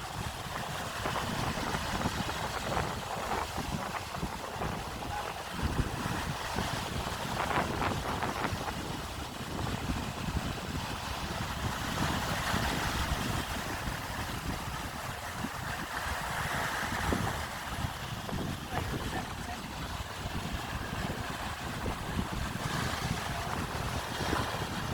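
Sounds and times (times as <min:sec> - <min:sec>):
sea waves: 0:00.0 - 0:24.9
wind buffeting microphone: 0:00.0 - 0:24.9.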